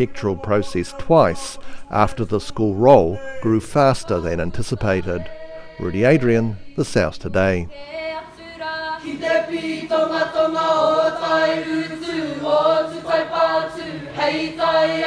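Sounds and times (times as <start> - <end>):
group of students singing: 0.0 - 7.1, 7.7 - 15.0.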